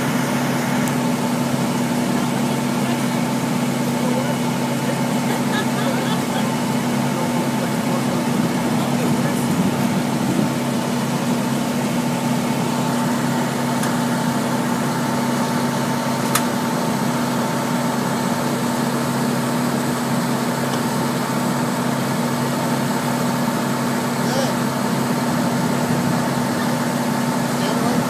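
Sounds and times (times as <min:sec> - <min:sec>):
fire engine engine humming: 0:00.0 - 0:28.0.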